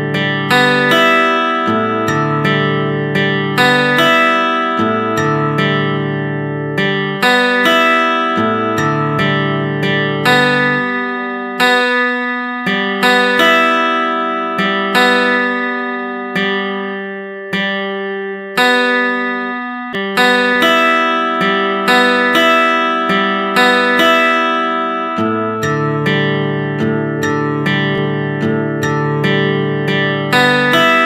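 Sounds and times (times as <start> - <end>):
plucked guitar chords: 0.0 - 31.0.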